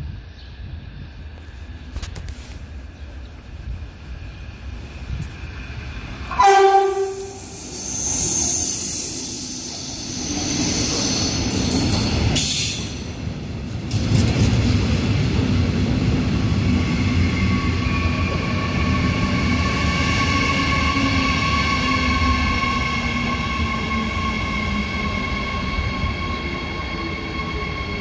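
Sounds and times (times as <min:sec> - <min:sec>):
train high whine: 0:00.0 - 0:14.6, 0:15.6 - 0:28.0
train wheels rumbling on rails: 0:00.0 - 0:28.0.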